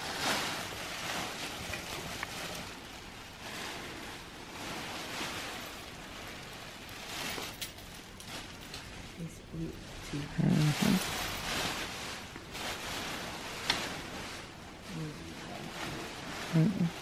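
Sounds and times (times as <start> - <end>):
fabric rustling: 0.0 - 17.0.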